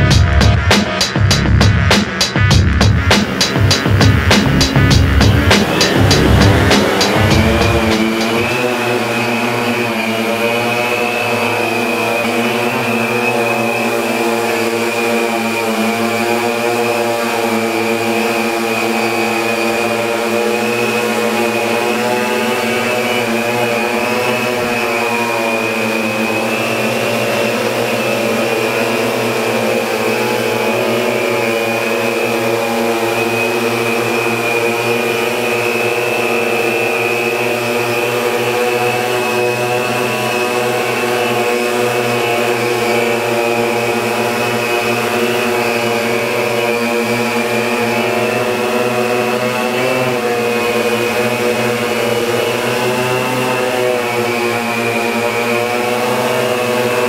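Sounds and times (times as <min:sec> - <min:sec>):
drone motors buzzing and whining: 0:00.0 - 0:57.0.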